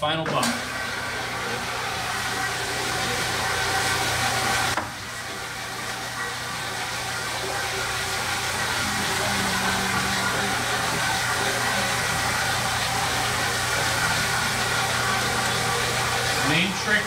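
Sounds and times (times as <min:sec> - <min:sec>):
floor buffer motor hum: 0:00.2 - 0:17.0.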